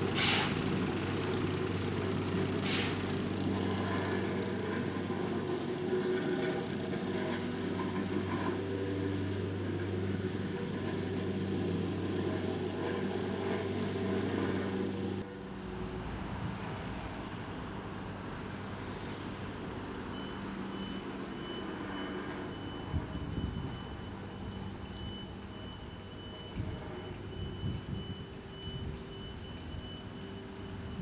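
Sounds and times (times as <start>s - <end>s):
city traffic noise: 0.0s - 31.0s
machinery engine droning: 0.0s - 31.0s.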